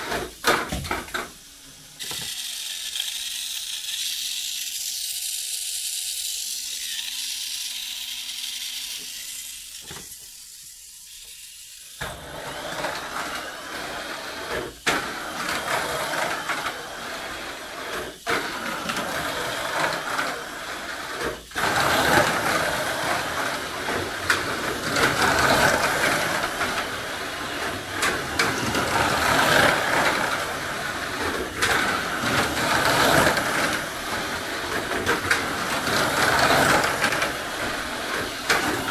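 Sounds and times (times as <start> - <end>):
toy car motor whirring: 0.0 - 38.9
toy car rattling on track: 0.0 - 38.9.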